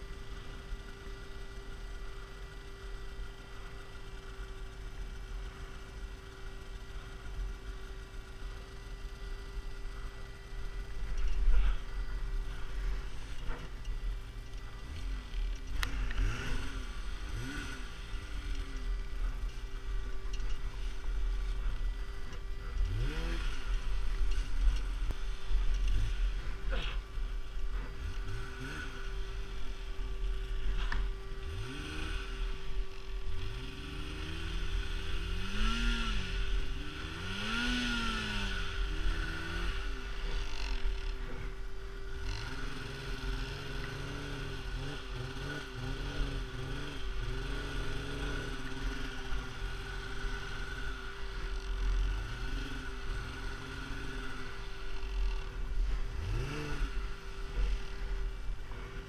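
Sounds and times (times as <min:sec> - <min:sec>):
snowmobile engine revving: 0:00.0 - 0:59.0
steady whine: 0:00.0 - 0:59.0.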